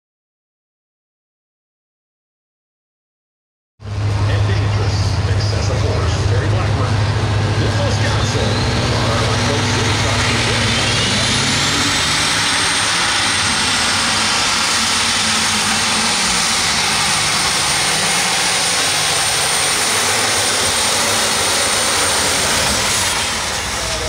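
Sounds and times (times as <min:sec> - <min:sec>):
tractor engine running flat out: 0:03.8 - 0:24.0
turbocharger whine: 0:03.8 - 0:24.0.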